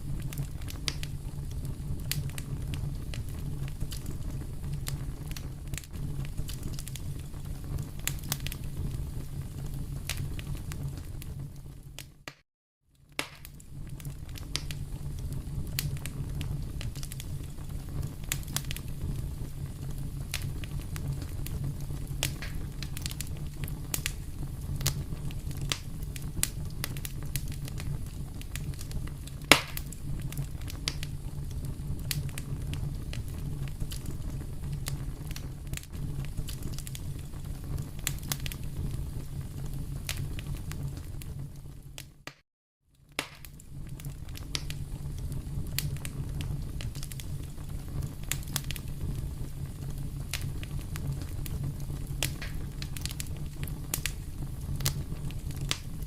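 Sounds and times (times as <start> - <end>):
low rumble of flames: 0.0 - 12.3, 12.9 - 42.3, 42.9 - 56.0
fire crackling and popping: 0.0 - 56.0.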